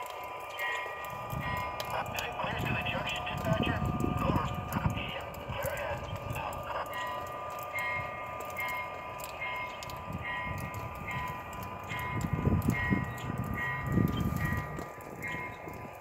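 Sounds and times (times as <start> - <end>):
model train cars rolling on track: 0.0 - 16.0.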